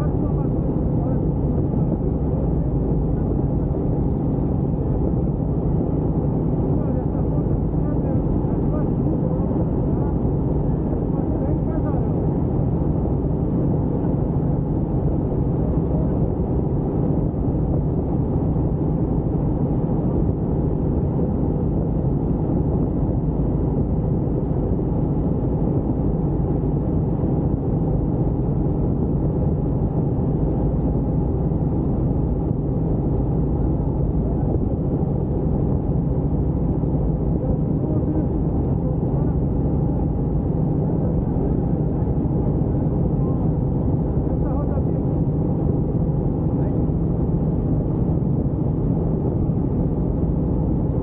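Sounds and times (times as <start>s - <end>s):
helicopter engine and rotor drone: 0.0s - 51.0s.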